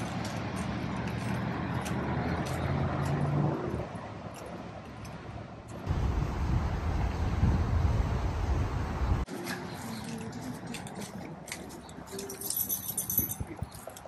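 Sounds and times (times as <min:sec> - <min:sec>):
vehicle hum: 0:00.0 - 0:12.2
road traffic rumble: 0:00.0 - 0:14.0.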